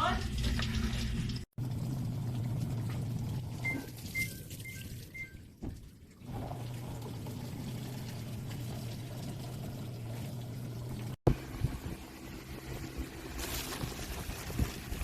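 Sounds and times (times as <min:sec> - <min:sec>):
water running into machine: 0:00.0 - 0:15.0.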